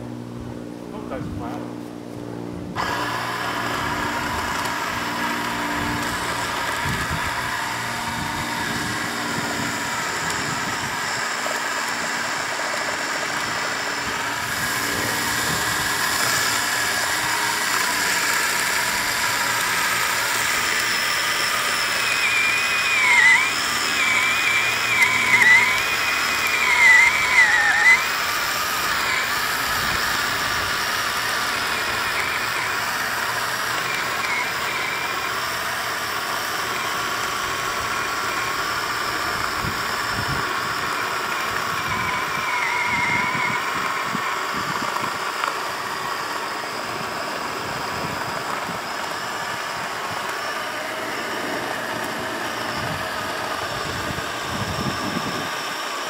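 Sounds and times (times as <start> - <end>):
cordless chainsaw whining: 0.0 - 56.0.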